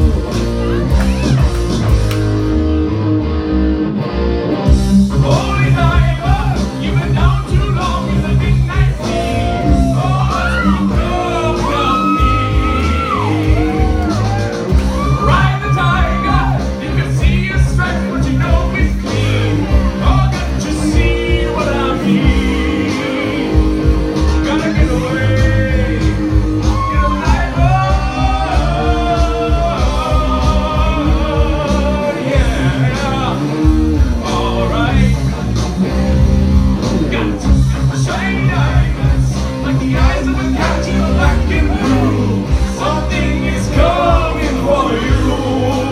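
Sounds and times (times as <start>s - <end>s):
bass guitar: 0.0s - 45.9s
drums: 0.0s - 45.9s
electric guitars: 0.0s - 45.9s
man singing into a microphone: 5.2s - 13.8s, 15.0s - 33.6s, 34.2s - 35.4s, 37.0s - 45.9s.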